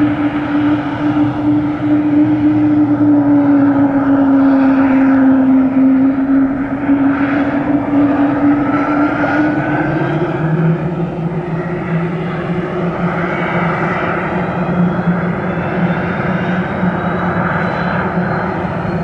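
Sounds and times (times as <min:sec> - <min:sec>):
helicopter rotor noise: 0:00.0 - 0:19.0
helicopter turbine whine: 0:00.0 - 0:19.0
steady tone: 0:00.0 - 0:19.0.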